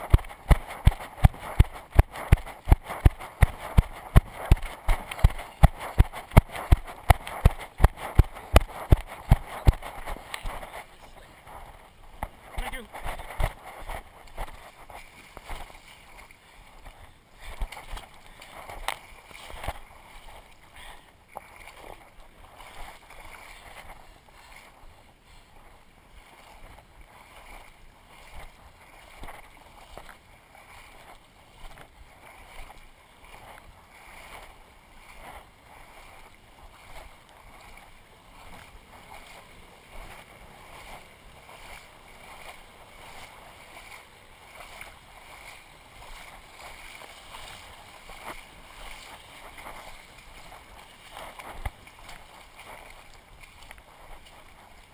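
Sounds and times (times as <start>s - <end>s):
water sloshing and splashing: 0.0s - 54.9s.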